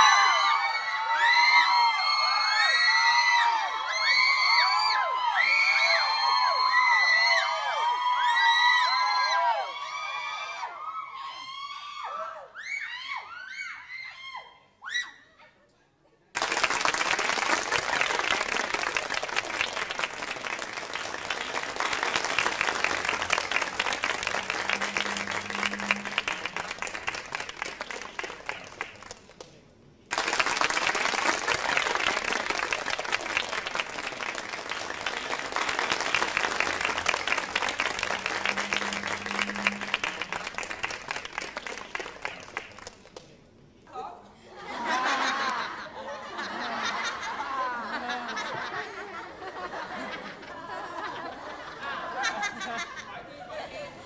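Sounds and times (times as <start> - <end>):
studio audience applause: 0.0 - 10.6, 16.3 - 29.5, 30.1 - 43.2, 44.7 - 45.8, 46.4 - 53.0.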